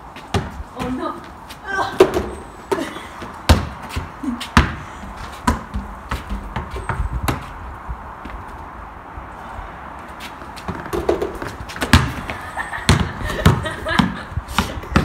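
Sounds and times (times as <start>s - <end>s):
basketball bouncing on pavement: 0.0s - 8.7s, 10.2s - 15.0s.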